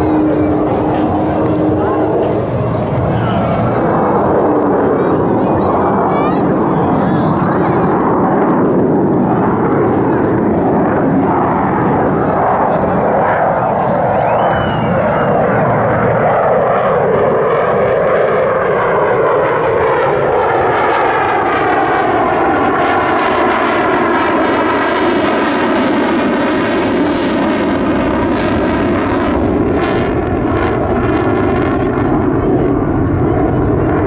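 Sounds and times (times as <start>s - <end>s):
jet engine roaring: 0.0s - 34.0s.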